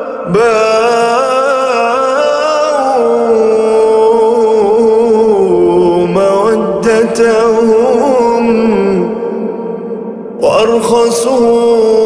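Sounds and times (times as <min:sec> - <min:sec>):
man singing melisma: 0:00.0 - 0:12.0.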